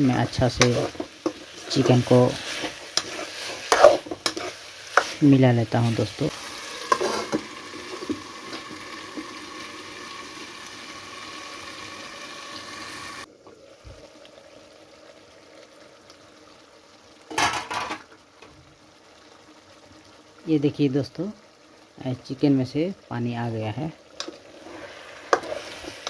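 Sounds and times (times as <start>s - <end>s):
chicken sizzling in a pan: 0.0s - 26.0s.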